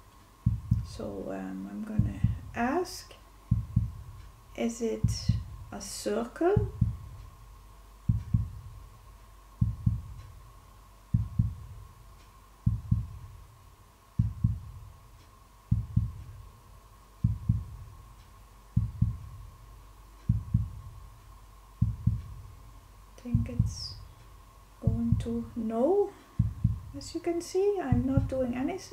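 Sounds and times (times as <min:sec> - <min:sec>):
heartbeat double thump: 0:00.4 - 0:01.1, 0:01.9 - 0:02.8, 0:03.4 - 0:16.6, 0:17.2 - 0:24.1, 0:24.8 - 0:25.7, 0:26.3 - 0:27.2, 0:27.8 - 0:28.8.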